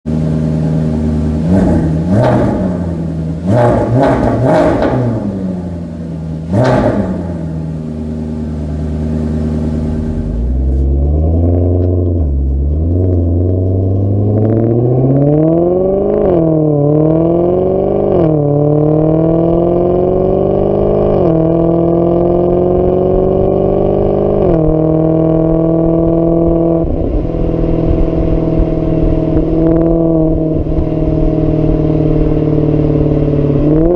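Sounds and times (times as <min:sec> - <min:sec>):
car engine revving: 0:00.0 - 0:33.9
car accelerating through gears: 0:01.0 - 0:33.9.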